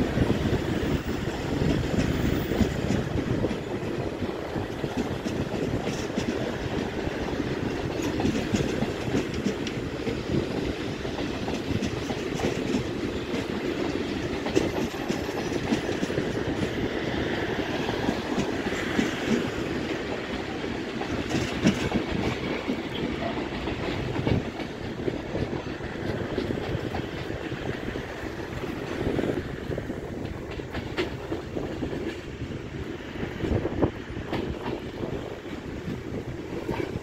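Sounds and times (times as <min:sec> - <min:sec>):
train wheels clacking over rail joints: 0:00.0 - 0:37.0.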